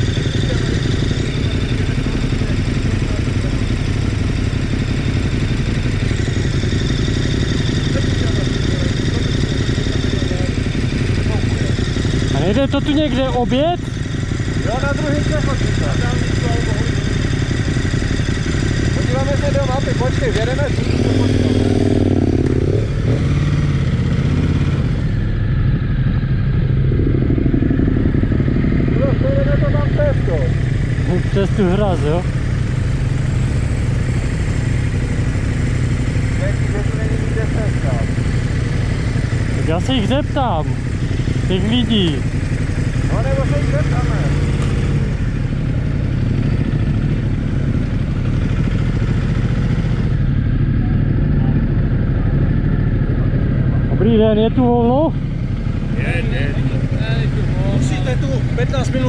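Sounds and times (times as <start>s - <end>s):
motorcycle engines pulling away: 0.0s - 59.0s.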